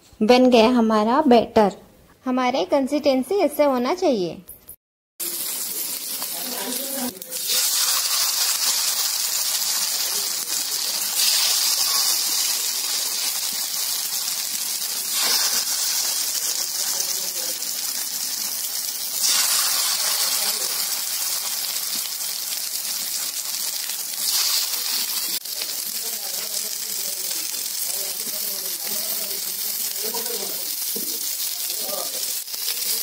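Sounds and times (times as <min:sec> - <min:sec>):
flowers sizzling in hot oil: 0:05.2 - 0:33.0.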